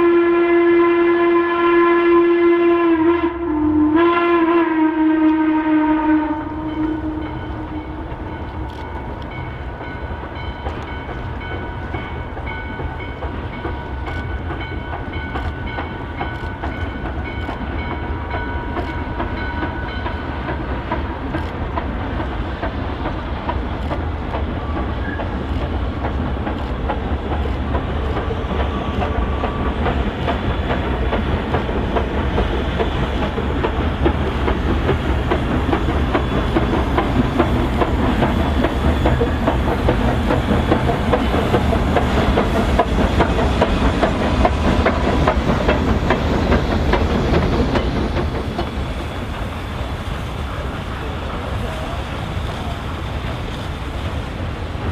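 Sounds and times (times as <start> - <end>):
train rumbling on rails: 0.0 - 54.9
wheels clicking over rail joints: 6.6 - 54.9.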